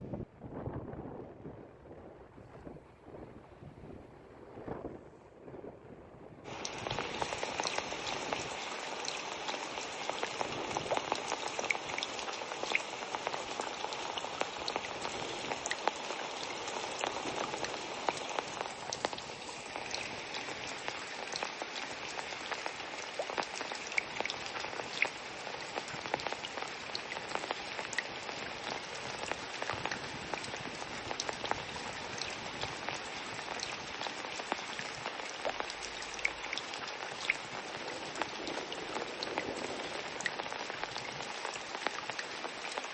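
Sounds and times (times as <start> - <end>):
water drops pattering: 6.5 - 42.9.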